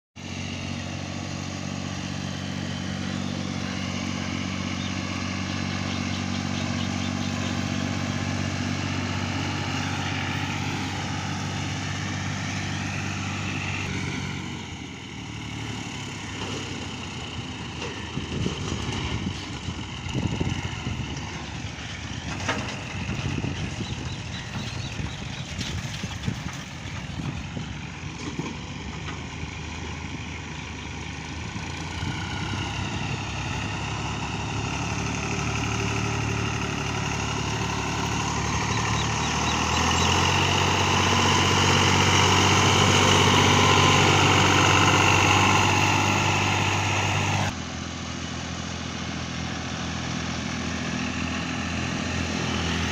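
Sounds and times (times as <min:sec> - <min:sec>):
tractor diesel engine running: 0:00.2 - 0:52.9.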